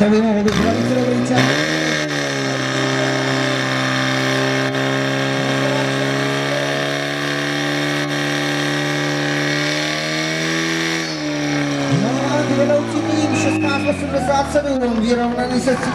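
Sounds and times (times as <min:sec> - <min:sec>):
pump engine running at high revs: 0:00.5 - 0:13.7.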